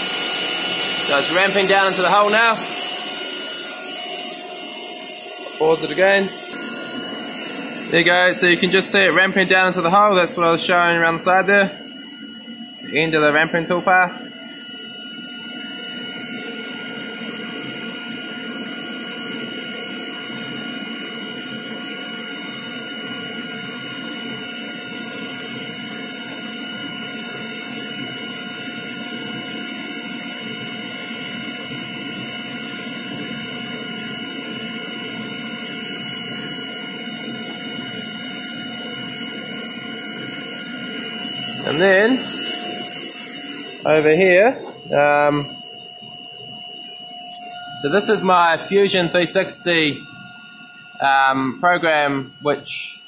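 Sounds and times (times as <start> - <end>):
milling machine hiss and whine: 0.0 - 53.0.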